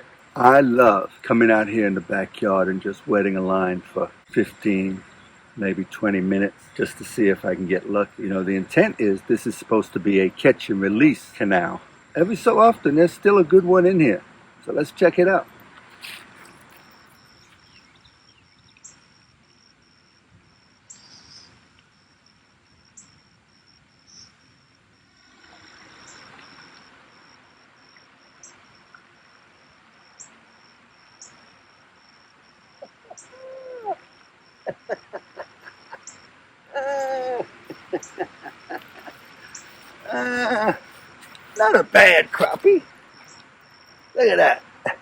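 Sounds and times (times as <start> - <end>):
insect chirp: 0.0 - 45.0
insects buzzing: 0.0 - 45.0.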